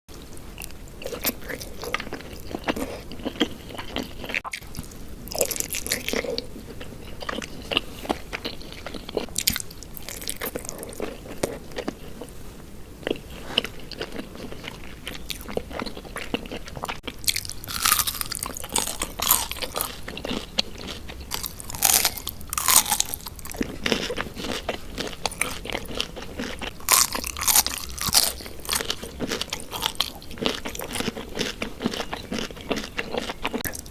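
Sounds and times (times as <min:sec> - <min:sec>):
chewing with crisp crunching: 0:00.1 - 0:33.9.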